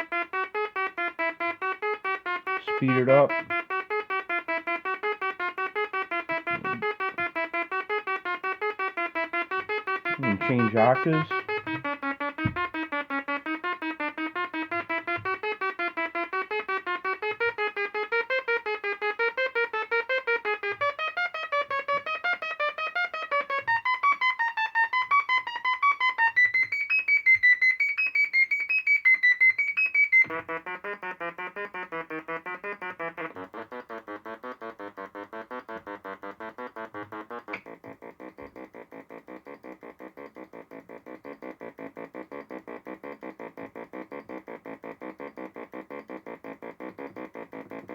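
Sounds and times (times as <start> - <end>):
looping electronic synthesizer notes: 0.0 - 47.9.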